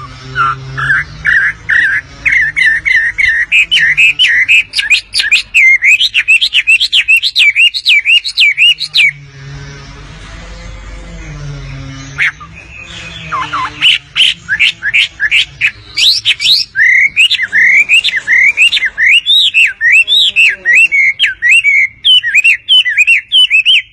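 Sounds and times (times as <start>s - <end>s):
bird singing whistled notes: 0.0s - 9.2s, 12.0s - 23.9s.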